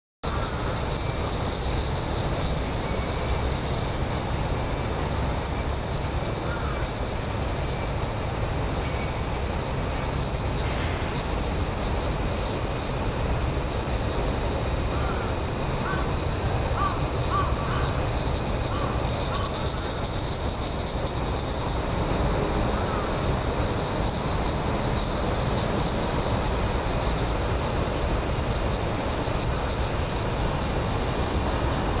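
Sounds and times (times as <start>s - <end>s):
cicadas buzzing: 0.2s - 32.0s.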